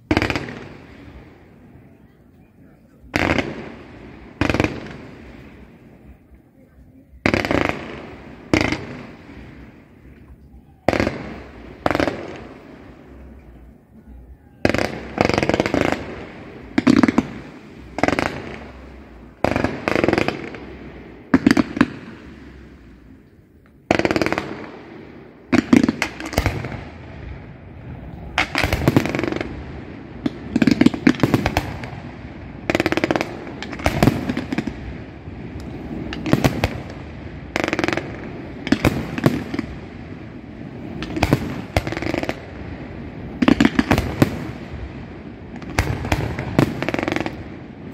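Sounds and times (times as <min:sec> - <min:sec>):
fireworks bursting with echo: 0:00.0 - 0:47.9.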